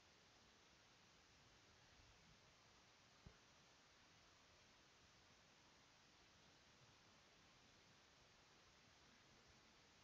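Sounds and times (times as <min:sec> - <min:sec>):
faint recording hiss: 0:00.0 - 0:10.0.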